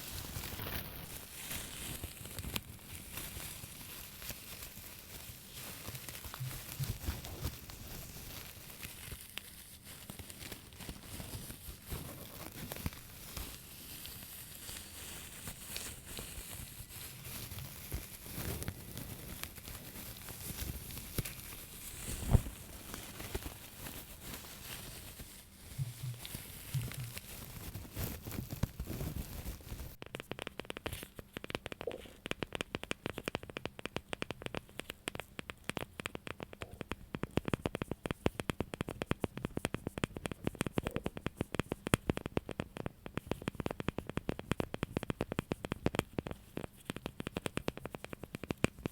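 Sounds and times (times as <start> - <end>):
crinkling and scratching: 0.0 - 48.9.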